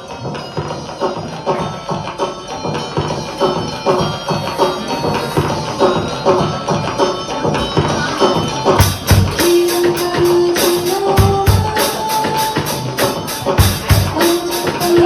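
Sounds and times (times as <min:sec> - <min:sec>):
rock band playing: 0:00.0 - 0:15.0
drum strikes: 0:00.6 - 0:15.0.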